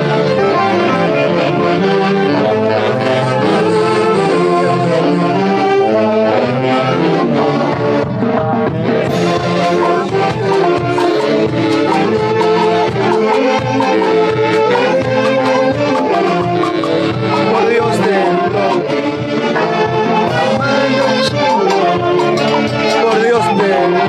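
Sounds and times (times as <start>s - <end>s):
festive brass and saxophone music: 0.0s - 24.0s.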